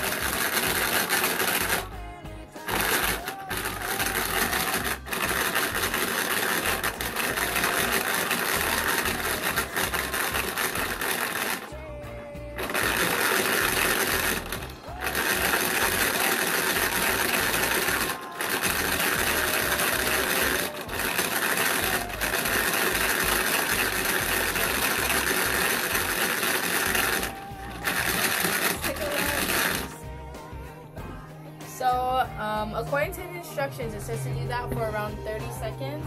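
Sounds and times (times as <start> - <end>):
hand-cranked plastic mixer whirring: 0.0 - 36.0.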